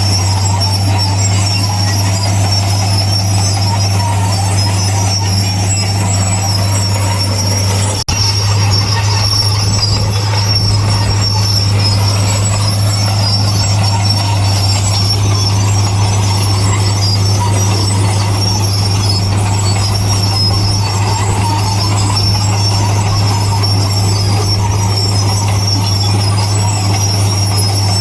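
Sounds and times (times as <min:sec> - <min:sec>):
diesel engine drone: 0:00.0 - 0:28.0
high-pitched metallic squealing: 0:00.0 - 0:28.0.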